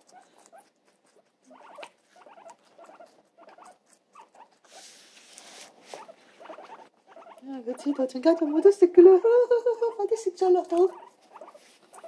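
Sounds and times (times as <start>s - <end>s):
soft rustle: 0.0s - 9.0s, 9.8s - 12.0s
guinea pigs chewing cucumber: 0.0s - 12.0s.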